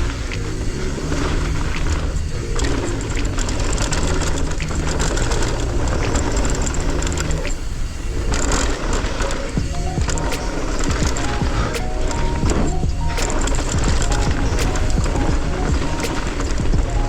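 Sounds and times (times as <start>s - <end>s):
background music with bass line: 0.0s - 17.0s.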